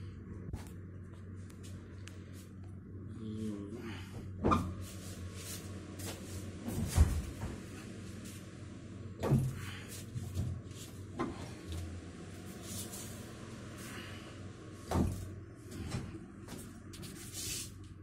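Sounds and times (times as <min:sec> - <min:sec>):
refrigeration equipment humming: 0:00.0 - 0:18.0.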